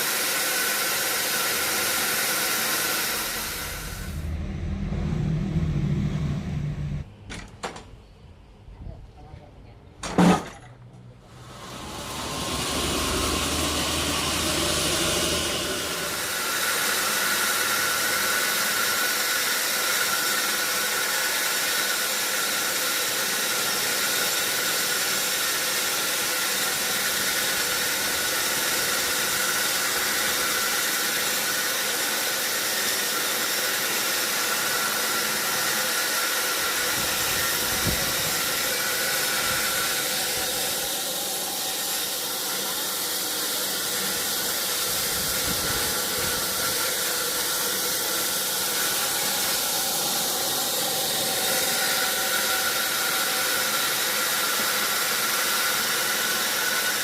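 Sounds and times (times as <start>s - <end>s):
sawmill saw cutting log: 0.0s - 6.2s, 11.3s - 57.0s.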